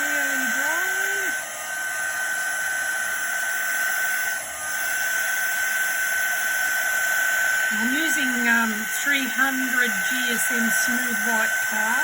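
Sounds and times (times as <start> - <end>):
heat gun blowing air: 0.0 - 12.0.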